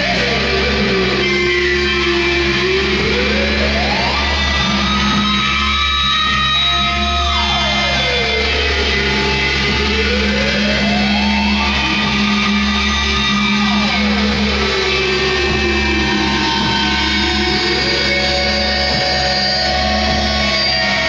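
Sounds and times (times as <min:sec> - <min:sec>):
loud low electronic drone: 0:00.0 - 0:21.0.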